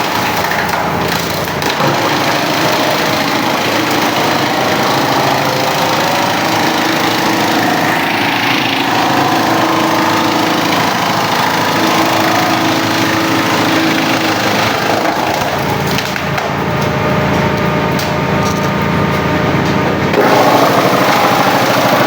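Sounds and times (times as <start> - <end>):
wood chipper engine running: 0.0 - 22.0.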